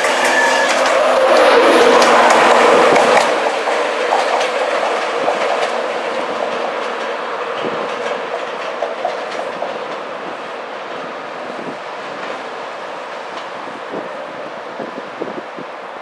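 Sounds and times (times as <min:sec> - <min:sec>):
train wheels clicking: 0:00.0 - 0:14.0
train rumble: 0:00.0 - 0:16.0.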